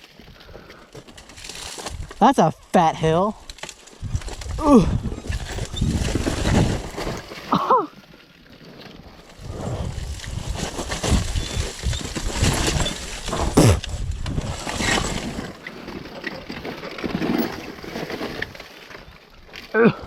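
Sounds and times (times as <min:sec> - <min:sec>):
dirt bike riding: 0:03.8 - 0:20.0.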